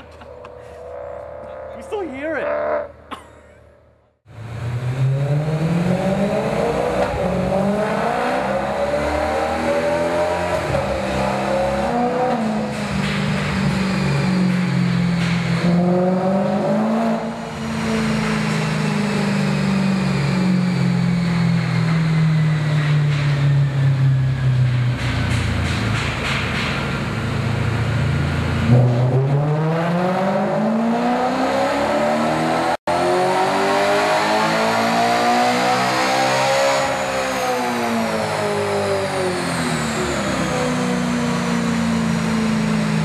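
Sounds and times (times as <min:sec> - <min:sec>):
car engine revving on dyno: 0:04.3 - 0:43.0.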